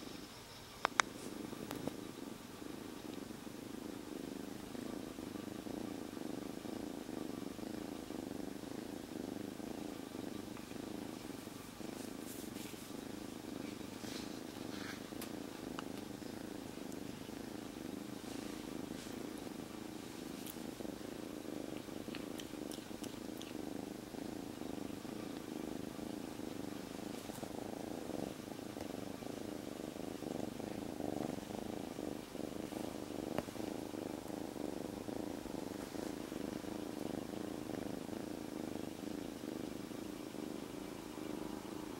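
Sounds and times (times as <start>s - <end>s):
kitten purring: 0.0s - 41.9s.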